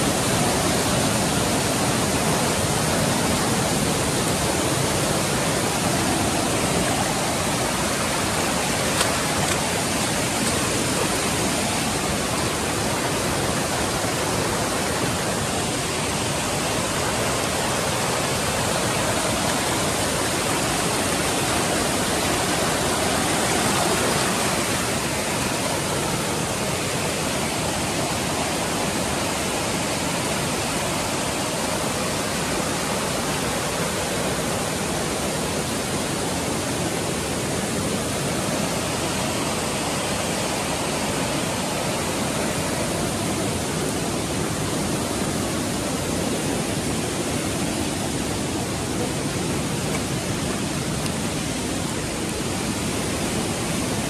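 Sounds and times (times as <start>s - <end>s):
rush of flowing water: 0.0s - 54.0s.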